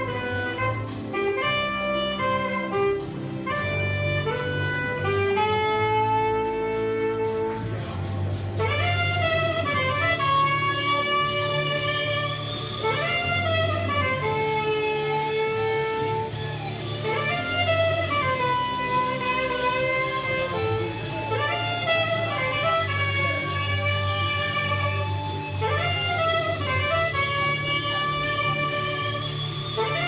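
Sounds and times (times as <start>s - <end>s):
instrumental music with sliding melody: 0.0s - 30.0s.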